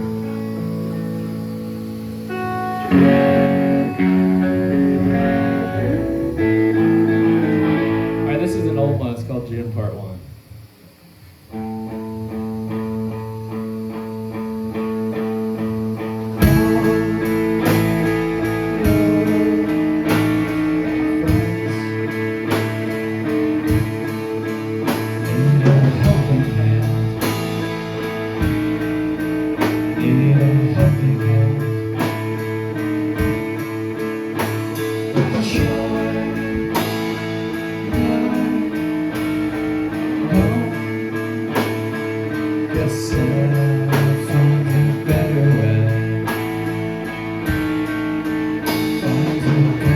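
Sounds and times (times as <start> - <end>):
rock band playing live: 0.0 - 9.0, 11.5 - 49.9
electric guitar chords: 0.0 - 49.9.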